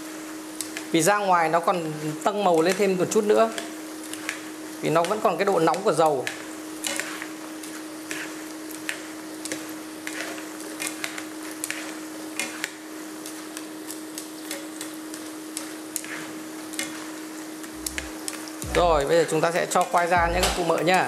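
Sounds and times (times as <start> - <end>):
hiss of frying oil: 0.0 - 21.0.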